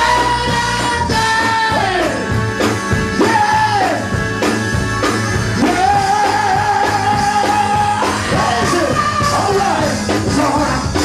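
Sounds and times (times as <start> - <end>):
gospel band playing: 0.0 - 11.0.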